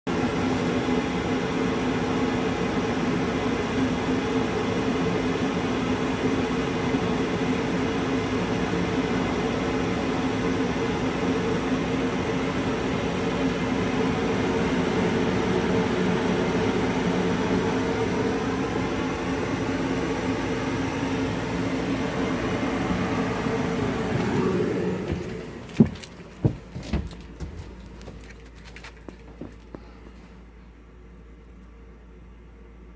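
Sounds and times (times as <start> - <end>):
furnace humming: 0.1 - 32.8.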